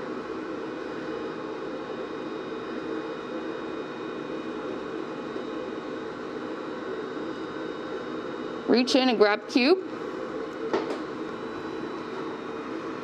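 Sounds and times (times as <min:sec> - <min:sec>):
blower hum and hiss: 0:00.0 - 0:13.0.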